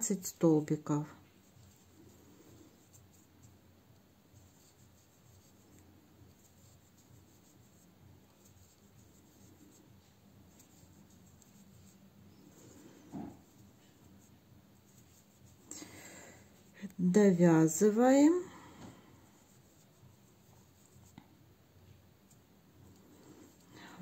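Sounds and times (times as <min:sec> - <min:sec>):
crochet hook scratching yarn: 0:00.0 - 0:24.0
faint low hum: 0:00.0 - 0:24.0.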